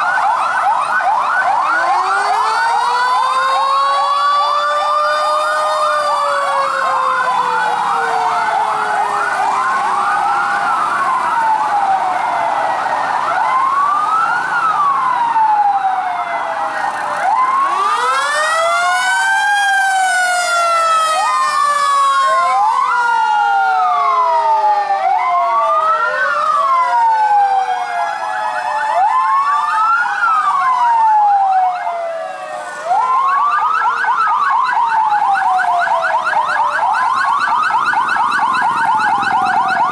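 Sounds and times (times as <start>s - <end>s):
fast yelping siren: 0.0s - 39.9s
fire truck sirens wailing: 0.0s - 39.9s.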